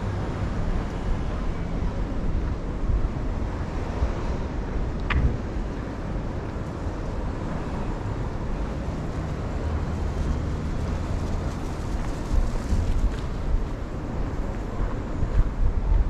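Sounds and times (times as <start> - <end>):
low rumbling city street ambience: 0.0 - 16.0.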